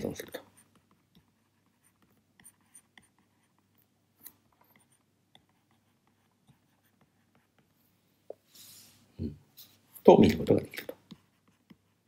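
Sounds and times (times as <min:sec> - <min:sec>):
stylus tapping and scratching on tablet: 0:00.0 - 0:08.5, 0:09.6 - 0:12.0.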